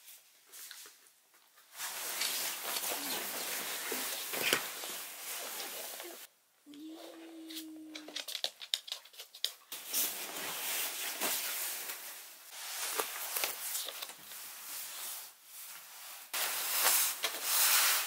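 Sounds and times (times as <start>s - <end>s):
clothing rustling: 0.0s - 6.3s, 9.0s - 18.0s.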